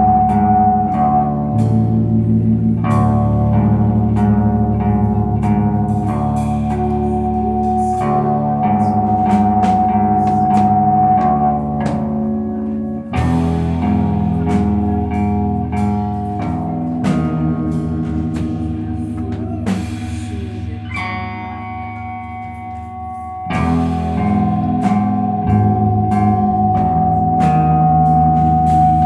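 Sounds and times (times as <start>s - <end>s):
drums: 0.0s - 29.0s
electric guitar chords: 0.0s - 29.0s.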